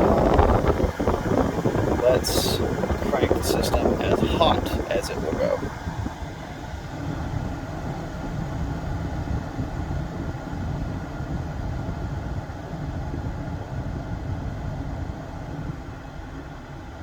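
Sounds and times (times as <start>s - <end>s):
air rushing through vents: 0.0s - 17.0s
car climate blower running: 0.0s - 17.0s.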